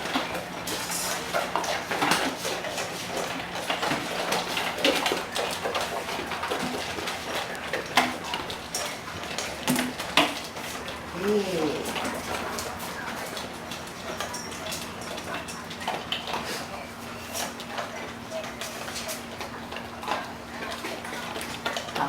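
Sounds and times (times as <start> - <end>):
dogs eating crunching: 0.0 - 22.0.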